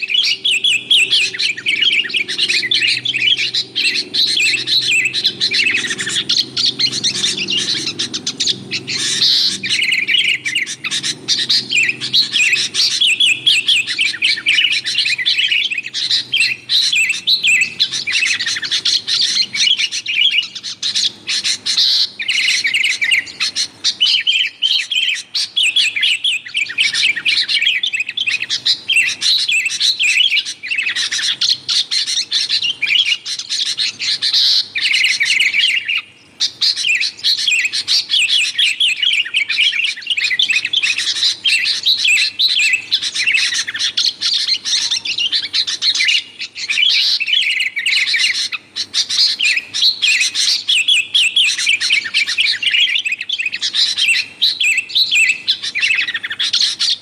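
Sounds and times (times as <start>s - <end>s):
bulbuls chirping and whistling: 0.0s - 57.0s.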